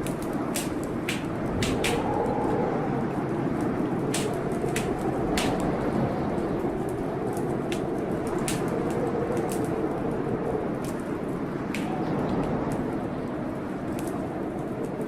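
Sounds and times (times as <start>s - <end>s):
blizzard wind whistling: 0.0s - 15.0s
wood fire crackling and popping: 0.0s - 15.0s.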